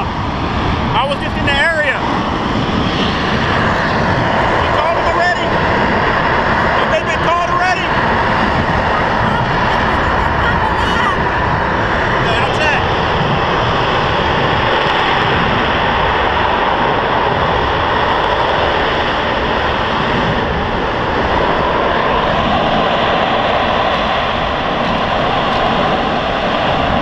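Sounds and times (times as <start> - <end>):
gas flame jet rushing: 0.0 - 27.0.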